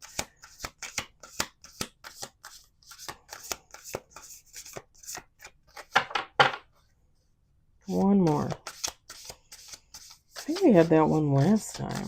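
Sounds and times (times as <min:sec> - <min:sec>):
cards being shuffled: 0:00.0 - 0:06.1, 0:07.9 - 0:12.0.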